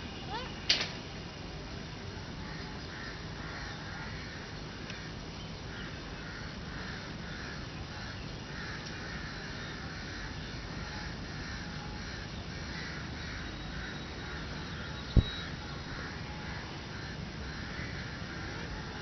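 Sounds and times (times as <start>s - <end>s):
birds harsh calls: 2.4s - 19.0s.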